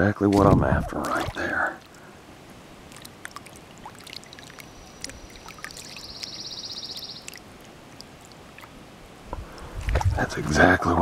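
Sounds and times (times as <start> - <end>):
water splashing and dripping: 0.0 - 10.5.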